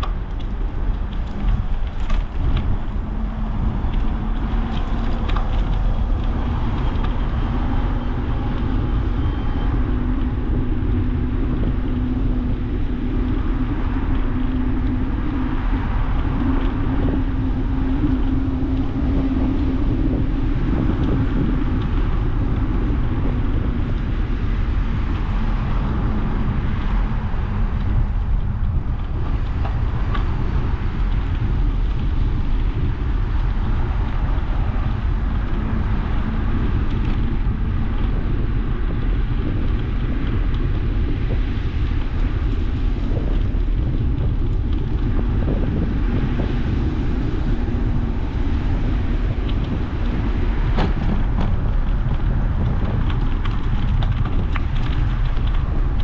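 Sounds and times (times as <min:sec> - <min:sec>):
constant low rumble: 0:00.0 - 0:56.0
wind rushing over microphone: 0:00.0 - 0:56.0.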